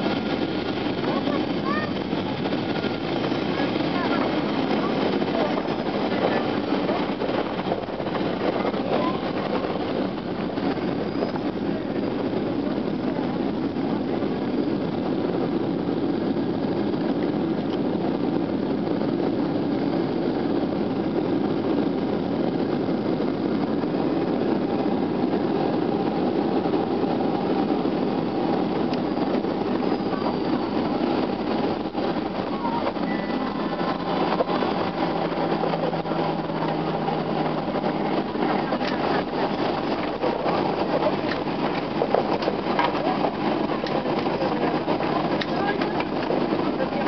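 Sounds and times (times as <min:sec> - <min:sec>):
airliner engine noise: 0:00.0 - 0:47.0
wheel rumble on runway: 0:00.0 - 0:47.0.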